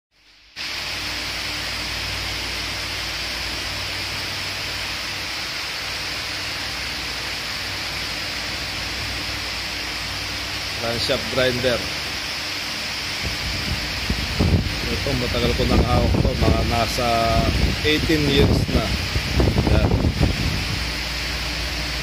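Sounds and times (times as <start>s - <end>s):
even hiss: 0.2s - 22.0s.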